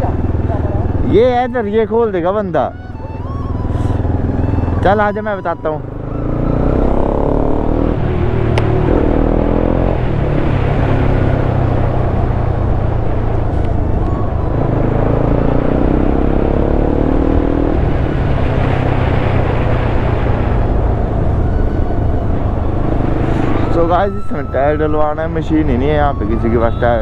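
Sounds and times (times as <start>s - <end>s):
heavy wind noise: 0.0s - 5.8s, 6.6s - 27.0s
motorcycle engine accelerating: 0.0s - 27.0s.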